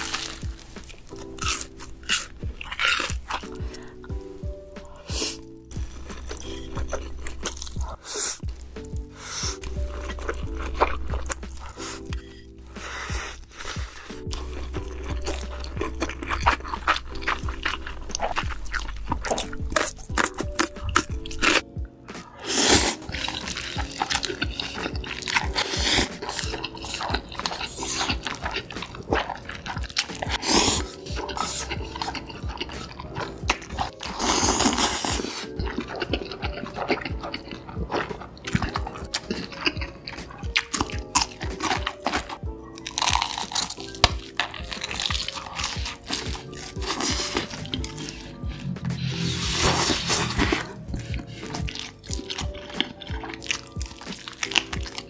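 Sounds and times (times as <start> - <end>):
background music: 0.0 - 55.0
noodles slurped and chewed: 0.0 - 55.0
wet mouth clicks: 4.8 - 55.0.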